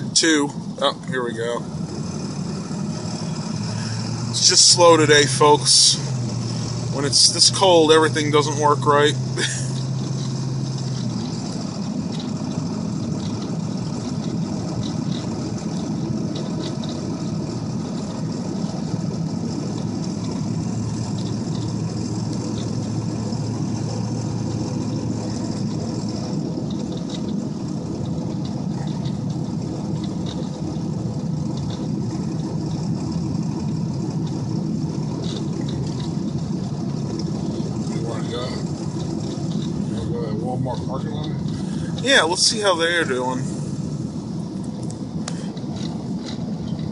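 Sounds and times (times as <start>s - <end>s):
pickup engine drone and road noise: 0.0s - 46.9s.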